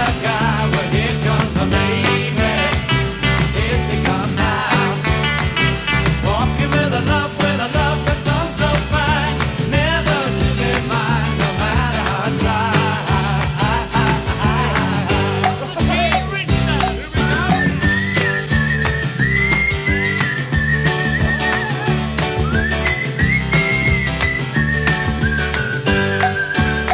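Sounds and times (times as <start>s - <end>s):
pop-rock music: 0.0s - 26.9s.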